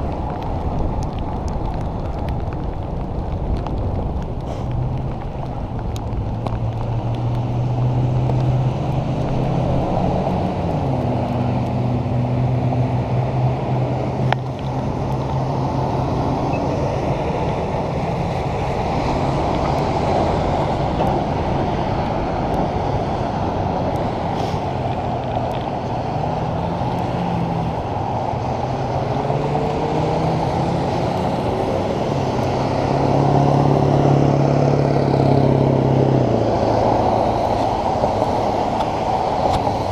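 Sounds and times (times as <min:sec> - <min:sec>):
bicycle on wet road: 0:00.0 - 0:39.9
passing traffic engine hum: 0:00.0 - 0:39.9
wind rushing over microphone: 0:00.0 - 0:39.9.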